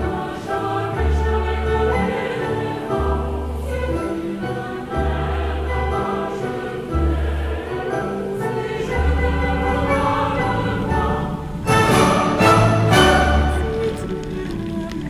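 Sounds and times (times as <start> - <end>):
background music of held chords: 0.0 - 15.0.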